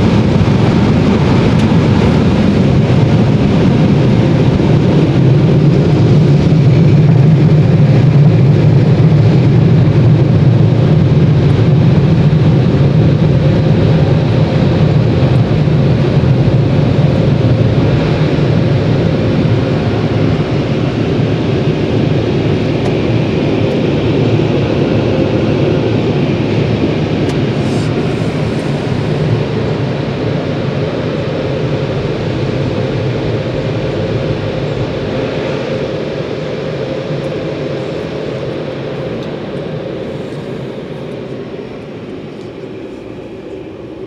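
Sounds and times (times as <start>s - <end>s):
mechanical roar inside car: 0.0s - 44.0s.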